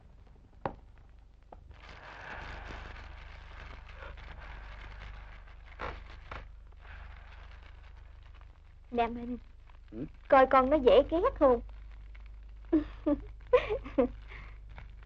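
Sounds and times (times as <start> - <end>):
fire crackling: 0.0 - 15.0
dry reeds rustling and snapping: 0.9 - 15.0.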